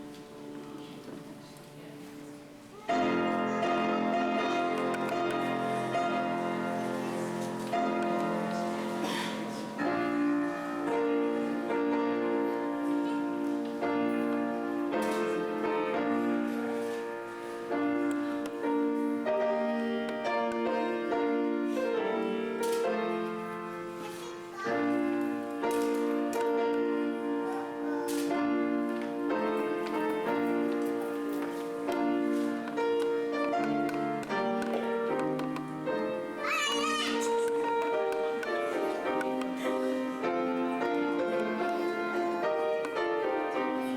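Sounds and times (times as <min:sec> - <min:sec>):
slow classical keyboard music: 0:00.0 - 0:43.9.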